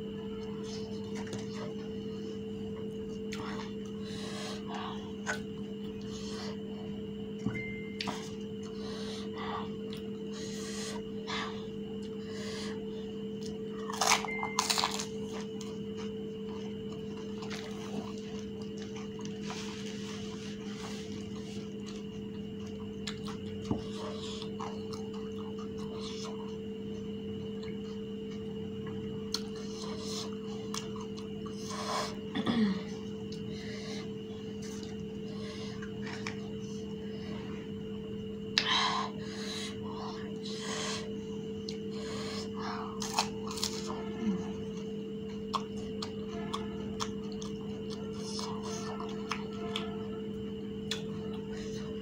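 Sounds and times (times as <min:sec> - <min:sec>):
crunching and chewing crisp shells: 0:08.0 - 0:37.4, 0:38.2 - 0:52.0.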